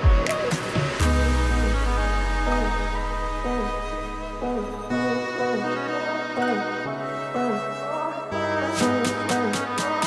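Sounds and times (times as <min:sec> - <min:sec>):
slow song with repeating melody: 0:00.0 - 0:10.0.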